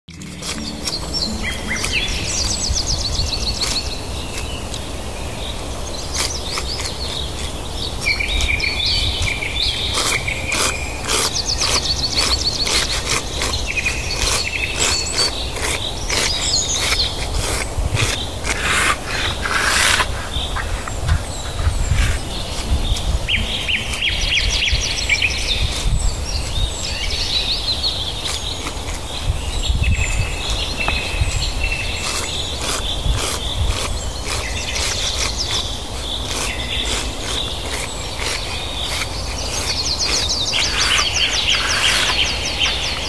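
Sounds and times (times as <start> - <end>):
birds trilling and chirping: 0.1 - 43.0.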